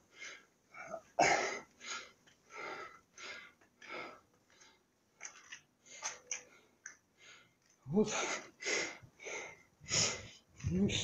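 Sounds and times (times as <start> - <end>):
person breathing heavily: 0.0 - 4.8, 5.8 - 10.6.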